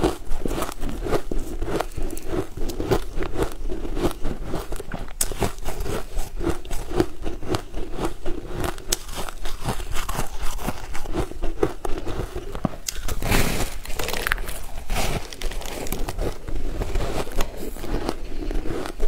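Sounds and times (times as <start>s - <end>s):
chewing cake close up: 0.0s - 19.0s.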